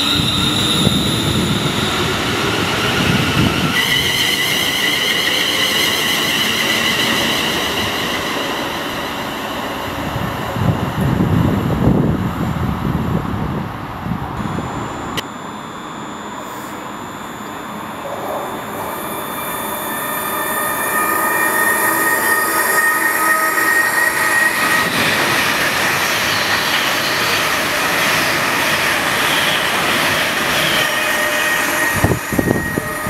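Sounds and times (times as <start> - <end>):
train passing at speed: 0.0 - 15.2, 18.0 - 33.0.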